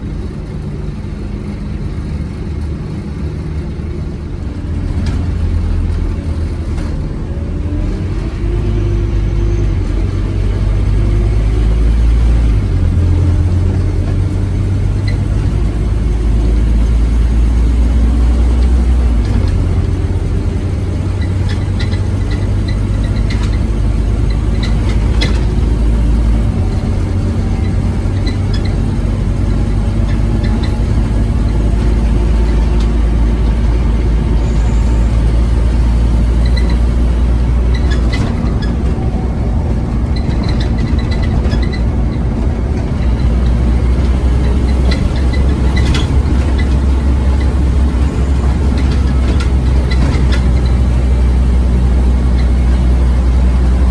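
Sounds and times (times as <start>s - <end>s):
bus engine droning: 0.0s - 53.9s.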